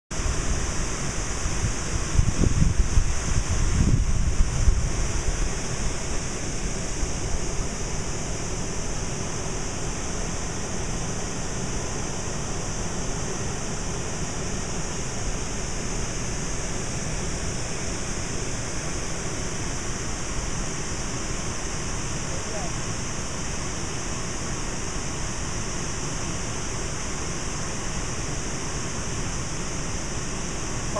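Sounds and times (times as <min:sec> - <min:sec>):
steady high hiss: 0:00.2 - 0:30.9.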